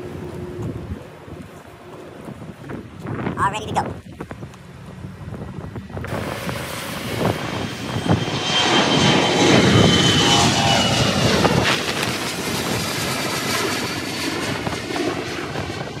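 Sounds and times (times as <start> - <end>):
high fan whine: 0.0 - 16.0
jet engines roaring: 0.0 - 16.0.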